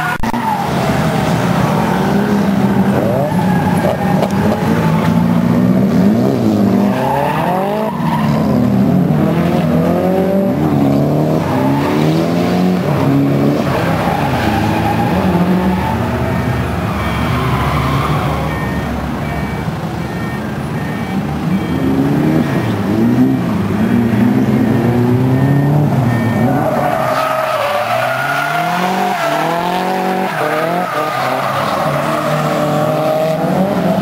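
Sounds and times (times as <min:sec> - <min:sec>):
car engines revving: 0:00.0 - 0:34.0
tires squealing: 0:00.0 - 0:34.0.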